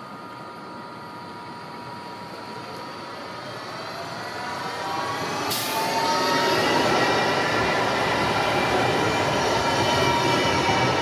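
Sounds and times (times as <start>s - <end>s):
tram drive whine: 0.0s - 11.0s
electric tram passing: 1.2s - 11.0s.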